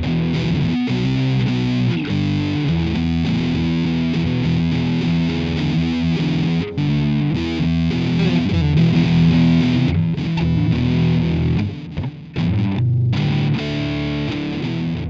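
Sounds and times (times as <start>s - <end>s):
distorted electric guitar music: 0.0s - 15.0s.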